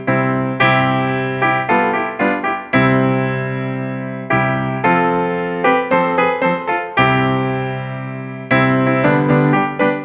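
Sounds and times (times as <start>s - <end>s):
piano chords ringing: 0.0s - 10.0s.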